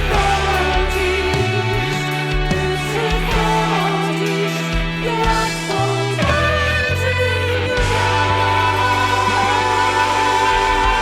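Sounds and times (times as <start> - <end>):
worship band instrumental music: 0.0 - 11.0.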